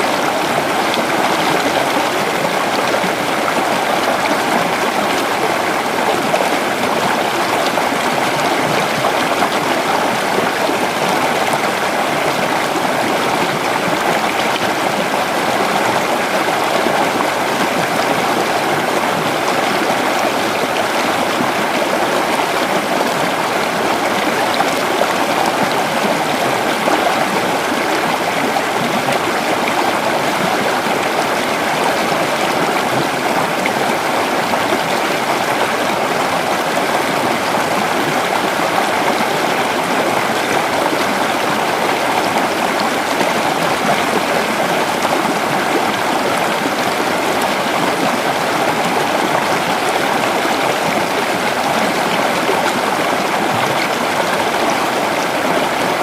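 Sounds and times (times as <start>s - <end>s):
creek babbling over rocks: 0.0s - 56.0s.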